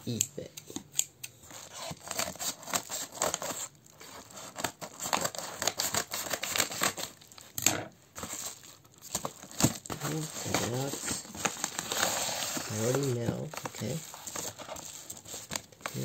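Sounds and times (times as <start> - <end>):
paper crinkling and tearing: 1.5 - 16.0.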